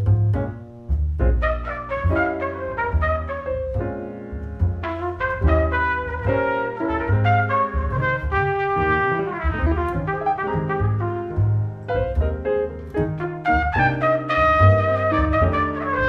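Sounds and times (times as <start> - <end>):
double bass: 0.0 - 16.0
piano: 0.0 - 16.0
jazz trumpet melody: 1.2 - 16.0.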